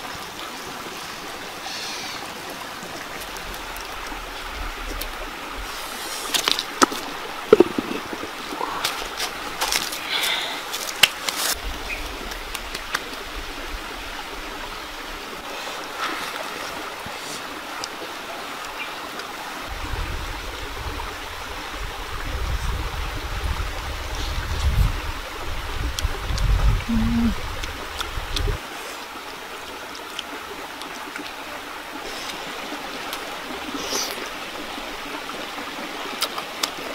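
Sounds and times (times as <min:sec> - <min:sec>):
rushing rocky stream: 0:00.0 - 0:36.9.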